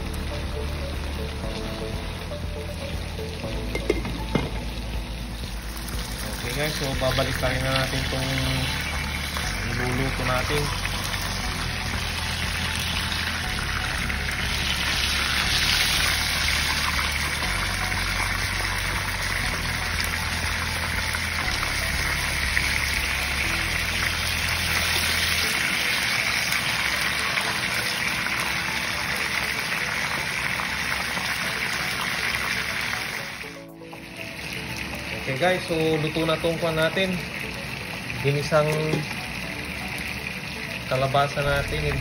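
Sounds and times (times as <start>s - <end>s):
fish sizzling in hot oil: 0.0s - 42.0s.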